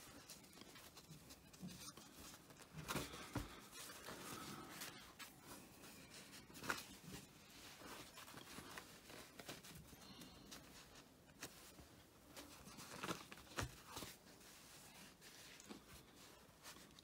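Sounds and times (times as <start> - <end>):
paper napkins rustling: 0.0 - 17.0.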